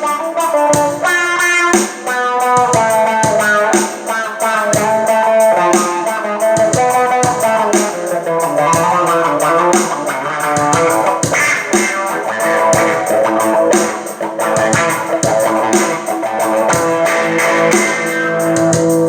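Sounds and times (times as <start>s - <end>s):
electric guitar with wah-wah pedal: 0.0s - 19.0s.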